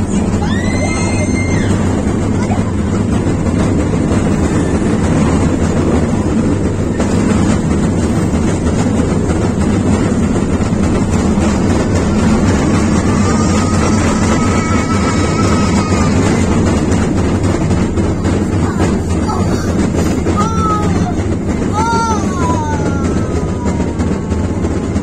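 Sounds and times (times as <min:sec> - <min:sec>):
ride-on train rumbling: 0:00.0 - 0:25.0.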